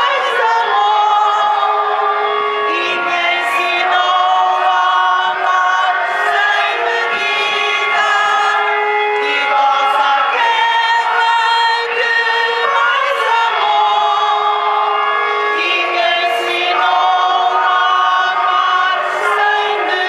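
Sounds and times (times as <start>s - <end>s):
group singing a hymn: 0.0s - 20.0s.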